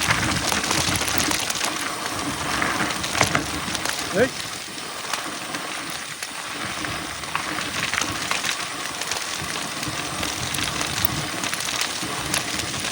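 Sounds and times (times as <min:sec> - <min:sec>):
bike rattling over bumps: 0:00.0 - 0:12.9
bike tyres crunching on dirt: 0:00.0 - 0:12.9.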